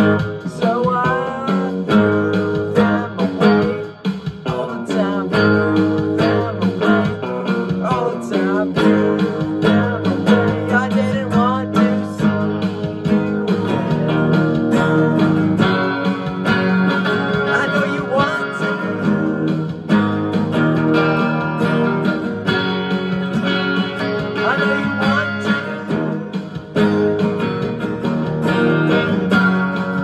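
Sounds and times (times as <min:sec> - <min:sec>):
lead guitar line: 0:00.0 - 0:30.0
strummed acoustic guitar: 0:00.0 - 0:30.0.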